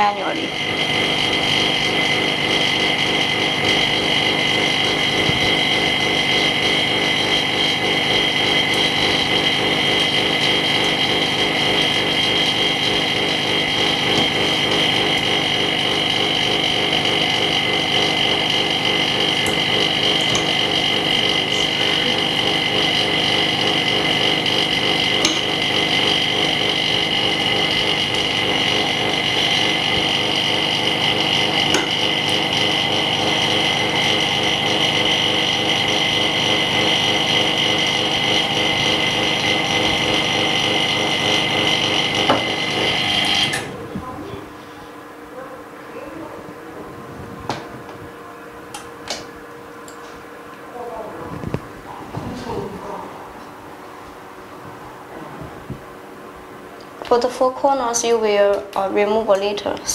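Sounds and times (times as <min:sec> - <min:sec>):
high even whine: 0:00.0 - 0:59.0
vacuum pump humming: 0:00.0 - 0:59.9.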